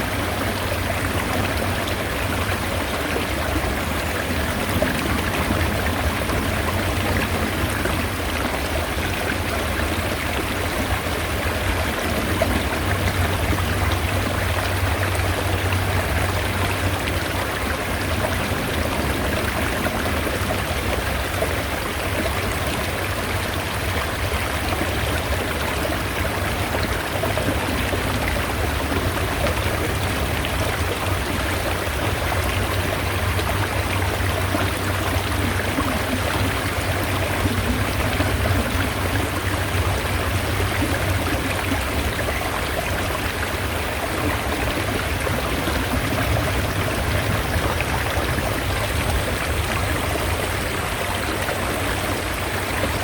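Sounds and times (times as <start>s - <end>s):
stream water rushing: 0.0s - 53.0s.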